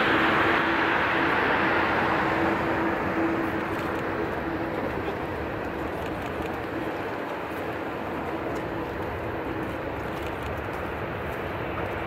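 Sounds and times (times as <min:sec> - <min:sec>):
jet engines droning: 0:00.0 - 0:12.0.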